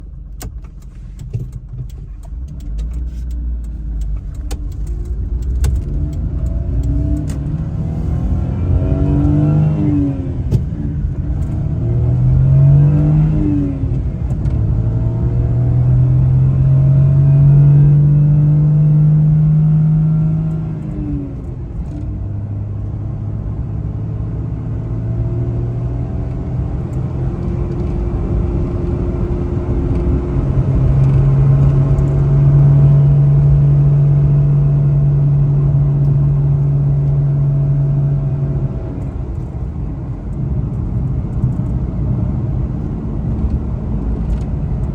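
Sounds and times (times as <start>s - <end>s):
van engine accelerating: 0.0s - 44.9s.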